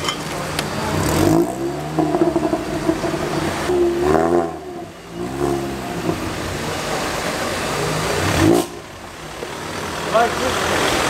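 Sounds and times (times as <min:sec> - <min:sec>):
road noise: 0:00.0 - 0:11.0
car engine revving: 0:00.3 - 0:11.0.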